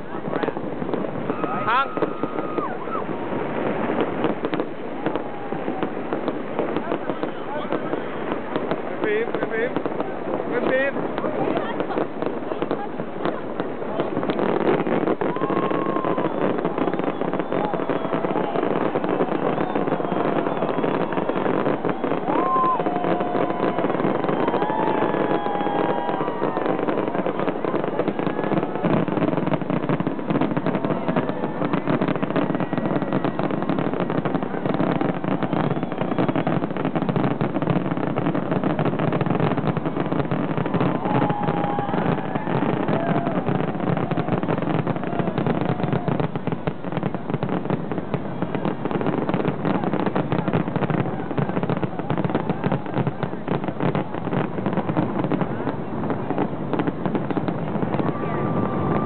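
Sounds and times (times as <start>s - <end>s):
crowd voices: 0.0s - 59.0s
fireworks bursting and crackling: 0.0s - 59.0s.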